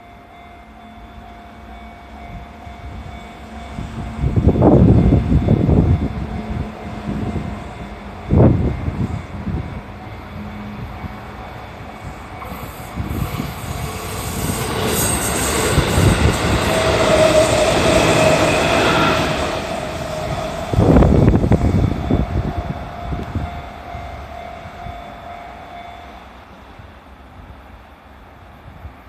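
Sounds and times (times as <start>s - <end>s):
electric train passing with whine: 0.0s - 29.0s.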